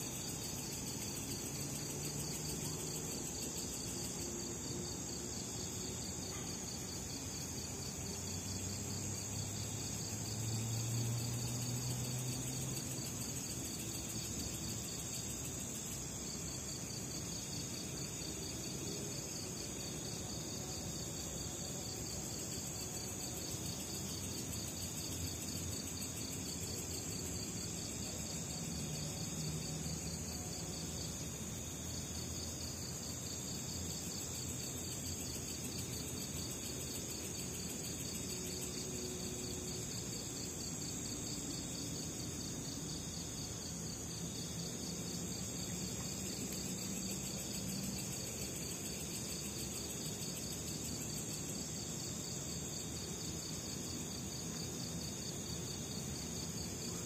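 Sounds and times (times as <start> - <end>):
crickets and insects buzzing: 0.0 - 57.0
rapidly pulsing insect trill: 0.0 - 57.0.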